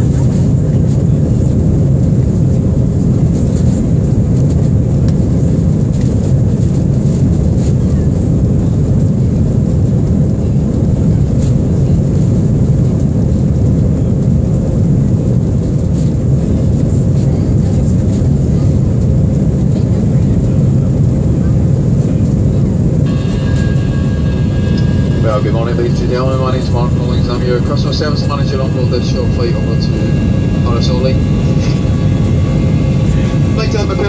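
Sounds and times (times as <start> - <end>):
airplane cabin engine noise: 0.0 - 34.0.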